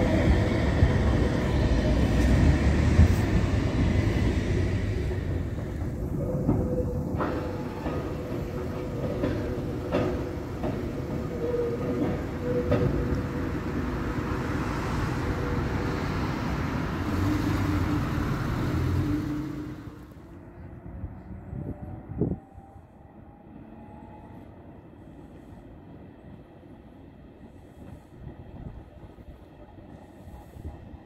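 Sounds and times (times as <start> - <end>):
tram wheels on rails: 0.0 - 31.0.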